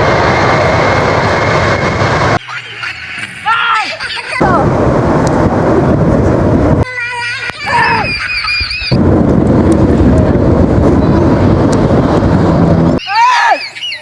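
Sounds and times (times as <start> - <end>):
airplane roaring: 0.0 - 14.0.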